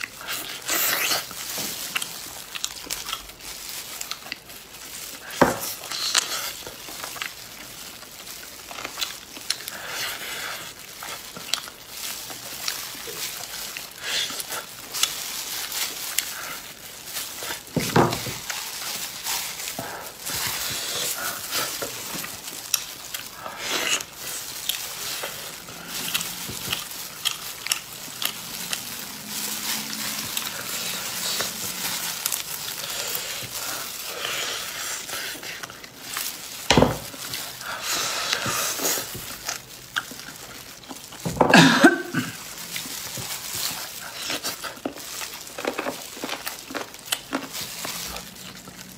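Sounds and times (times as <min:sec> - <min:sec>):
chewing and tearing meat: 0:00.0 - 0:48.9
plastic gloves crinkling: 0:00.0 - 0:48.9.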